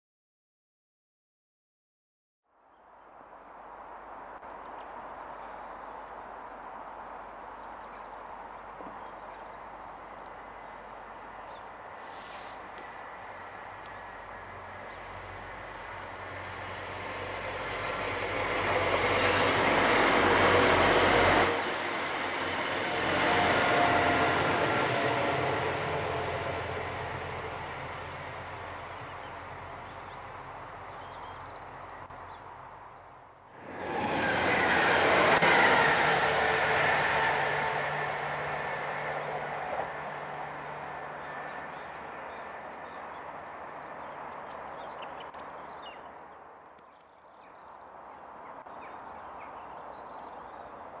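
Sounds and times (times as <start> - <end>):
diesel train passing: 5.2 - 46.5.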